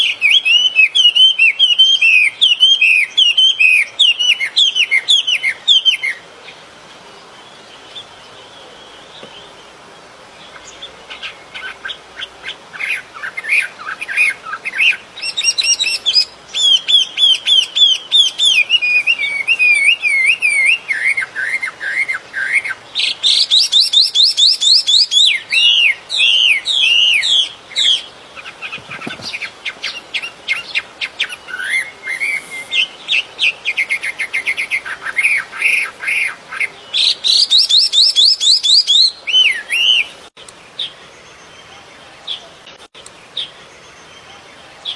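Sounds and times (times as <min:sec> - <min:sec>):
songbird singing trills and chirps: 0:00.0 - 0:44.9.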